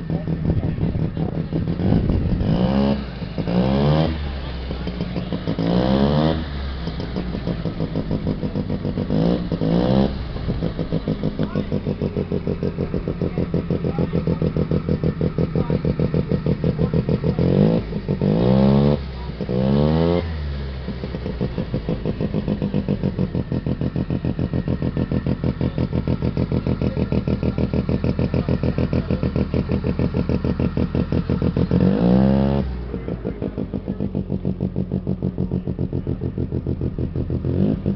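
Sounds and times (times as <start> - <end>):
snowmobile engine idling and revving: 0.0 - 37.9.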